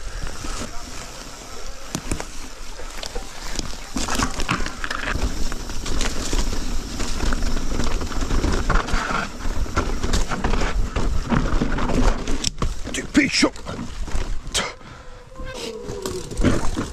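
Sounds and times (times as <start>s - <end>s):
bike rattling over bumps: 0.0s - 15.0s, 15.7s - 16.9s
bike tyres on dirt: 0.0s - 16.9s.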